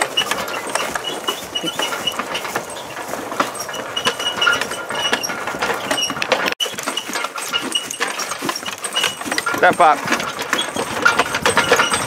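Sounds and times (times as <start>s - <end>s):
clatter of hooves: 0.0s - 12.0s
harness hardware rattling: 0.0s - 12.0s
short high squeaks: 0.0s - 12.0s
vehicle rattling: 0.0s - 12.0s.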